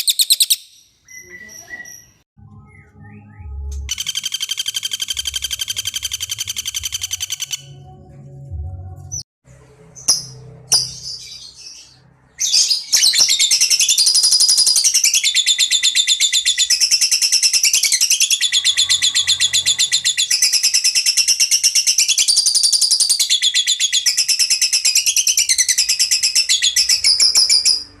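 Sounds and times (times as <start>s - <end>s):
songbird chirping and trilling: 0.0s - 8.0s, 9.1s - 28.0s.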